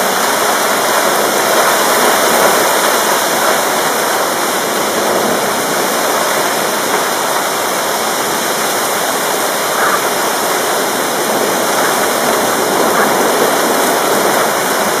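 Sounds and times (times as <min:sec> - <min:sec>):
rain pouring: 0:00.0 - 0:15.0.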